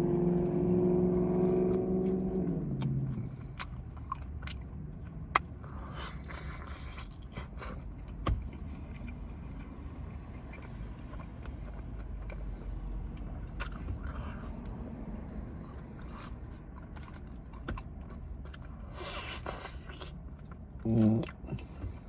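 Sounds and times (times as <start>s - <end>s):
chewing and biting: 1.4s - 22.0s.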